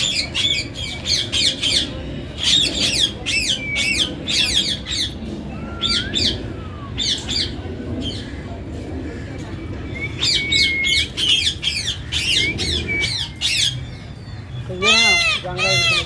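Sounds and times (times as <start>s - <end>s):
birds squawking chirps: 0.0s - 16.0s.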